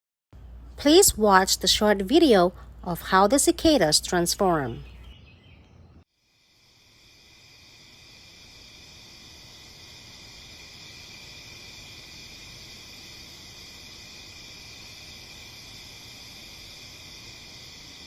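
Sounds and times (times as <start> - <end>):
cicadas droning: 0.4 - 18.0.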